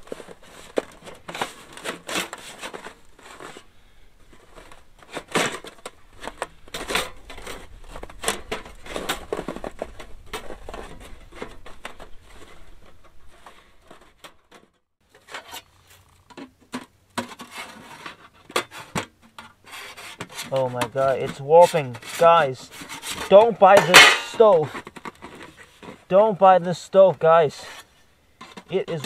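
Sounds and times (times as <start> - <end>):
metal panels clinking and scraping: 4.3 - 29.0.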